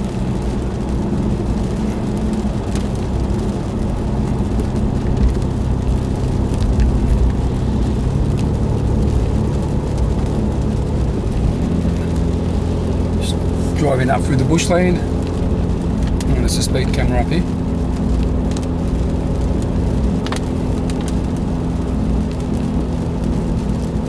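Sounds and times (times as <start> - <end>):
car engine hum: 0.0 - 24.0
road and tyre noise: 0.0 - 24.0.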